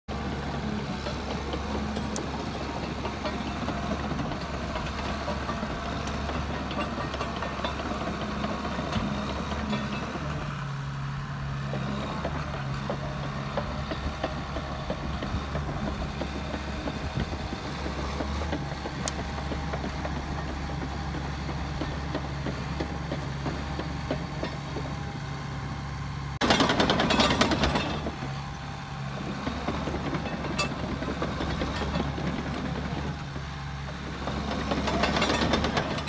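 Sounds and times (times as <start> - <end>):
diesel engine idling: 0.1 - 36.0.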